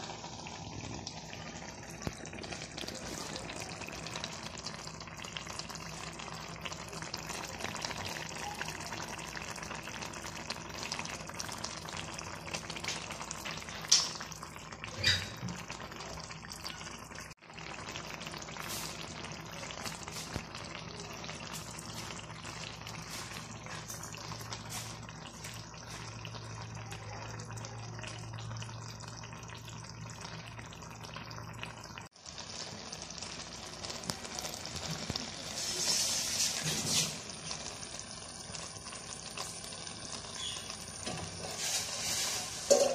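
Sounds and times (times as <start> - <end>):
food sizzling in clay pot: 0.0 - 42.9.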